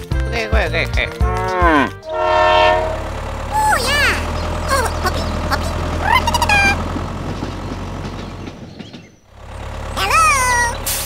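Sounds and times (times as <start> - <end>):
tractor engine drone: 1.1 - 11.0.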